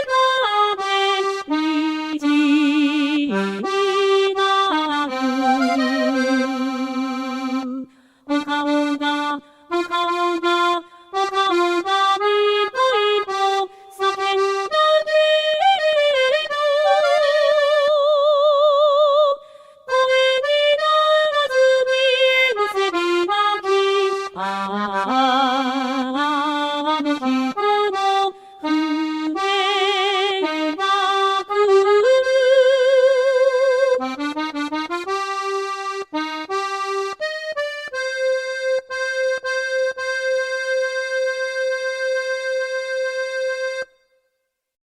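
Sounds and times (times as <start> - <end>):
accordion melody: 0.0 - 44.7.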